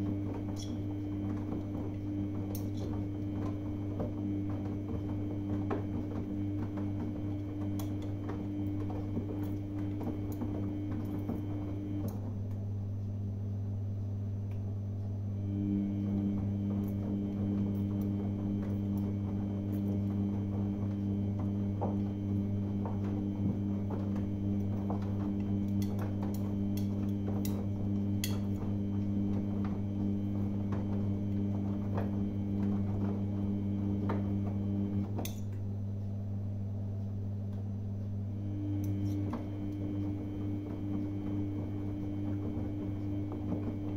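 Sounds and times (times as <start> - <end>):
steady low hum: 0.0 - 43.9
washing machine drum motor whirring: 0.0 - 43.9.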